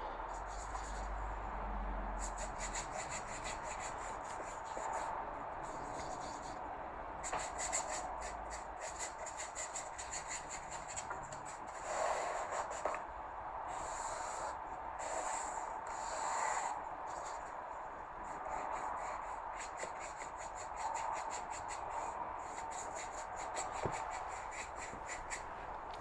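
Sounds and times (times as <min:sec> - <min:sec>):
paintbrush scrubbing on paper: 0:00.4 - 0:01.1, 0:02.2 - 0:06.6, 0:07.2 - 0:13.0, 0:13.7 - 0:17.6, 0:18.2 - 0:25.5.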